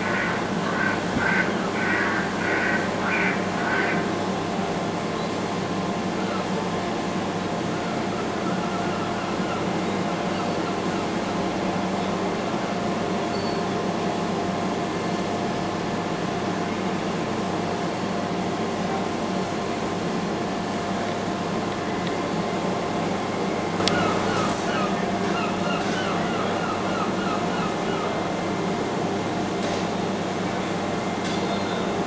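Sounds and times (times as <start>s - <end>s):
ship engines droning: 0.0s - 32.0s.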